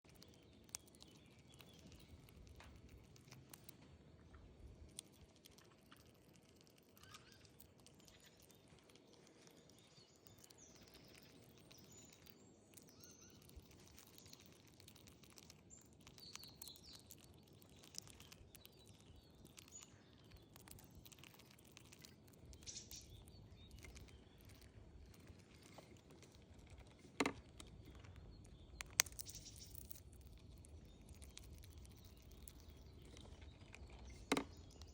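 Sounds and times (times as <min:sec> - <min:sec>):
faint bird chirps: 0:00.0 - 0:34.9.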